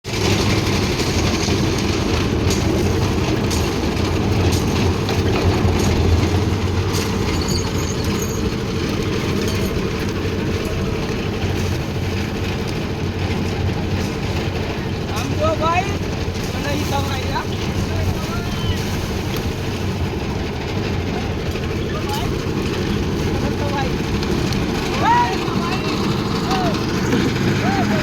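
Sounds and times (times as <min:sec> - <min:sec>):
concrete mixer engine drone: 0:00.1 - 0:28.0.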